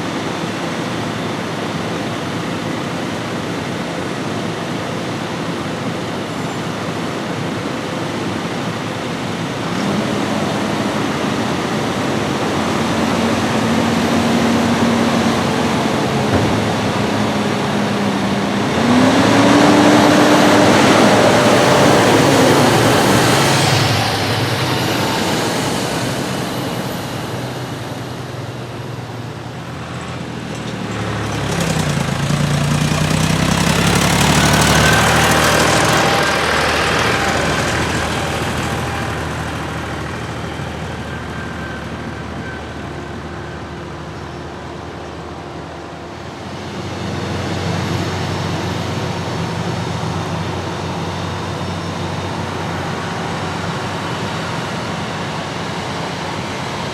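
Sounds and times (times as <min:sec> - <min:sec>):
tractor diesel engines running: 0:00.0 - 0:56.9.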